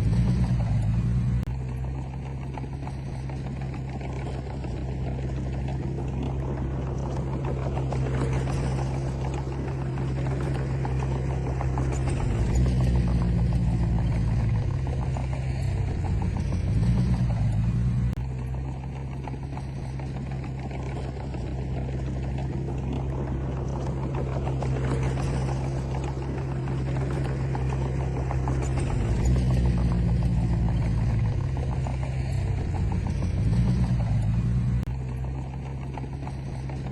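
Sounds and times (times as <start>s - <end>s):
bulldozer diesel engine: 0.0s - 36.9s.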